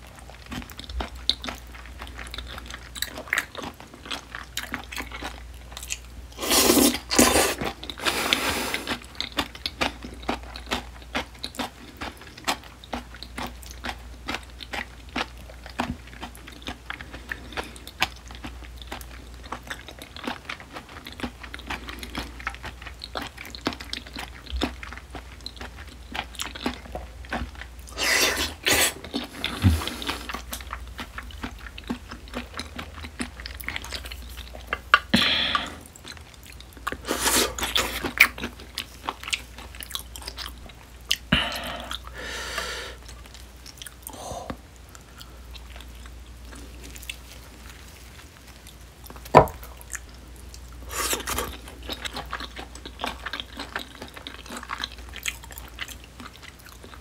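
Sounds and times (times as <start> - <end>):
wet chewing of raw oysters: 0.0 - 57.0.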